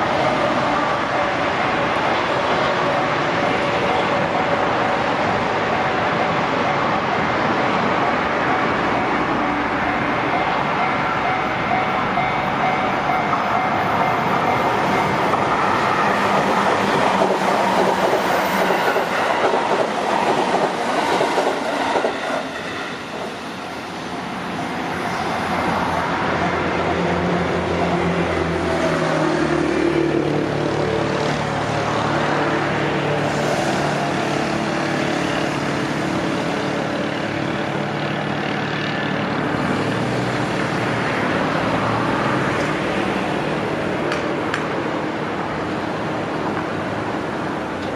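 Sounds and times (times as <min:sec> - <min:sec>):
train passing: 0:00.0 - 0:47.9.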